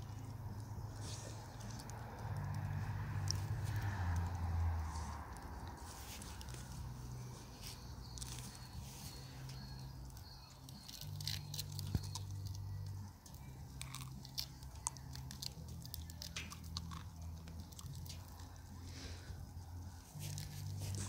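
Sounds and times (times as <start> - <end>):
dog crunching chestnuts: 0.1 - 19.2, 20.1 - 21.0.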